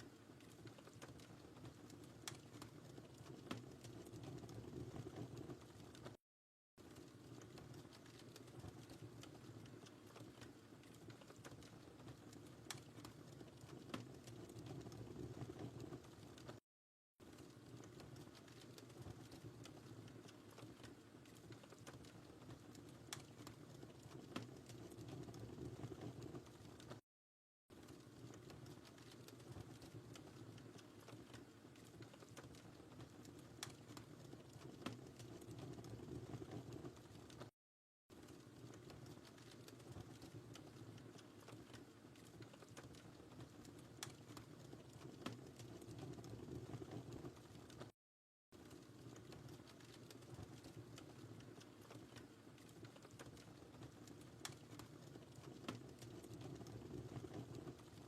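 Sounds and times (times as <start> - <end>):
wood fire crackling: 0.0 - 6.2, 6.8 - 16.6, 17.2 - 27.0, 27.7 - 58.0.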